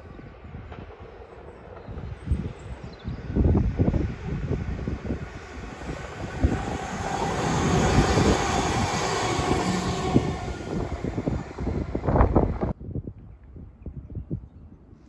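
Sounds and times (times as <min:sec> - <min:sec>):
wind buffeting microphone: 0:00.0 - 0:15.0
diesel train passing: 0:00.2 - 0:12.8.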